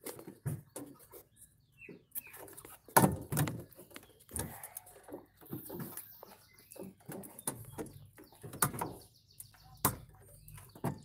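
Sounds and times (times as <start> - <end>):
clicks knocks and scrapes on plastic: 0.0 - 11.0.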